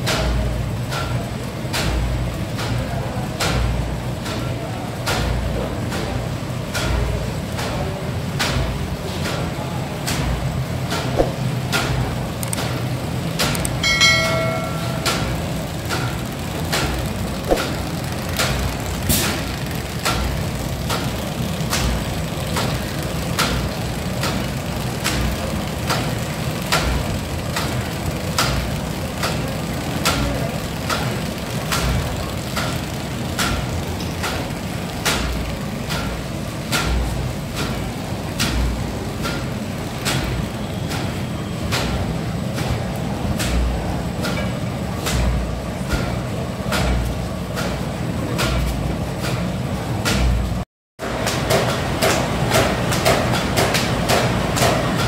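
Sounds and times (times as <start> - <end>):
machine clacking: 0.0 - 55.0
machine low mechanical hum: 0.0 - 55.0.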